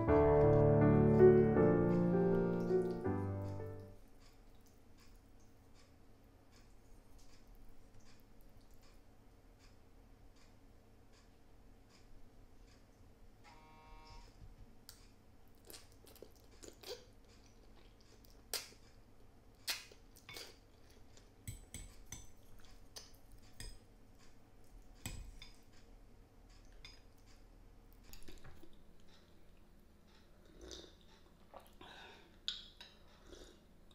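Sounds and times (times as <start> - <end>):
soft chewing: 1.9 - 13.1, 14.8 - 33.9.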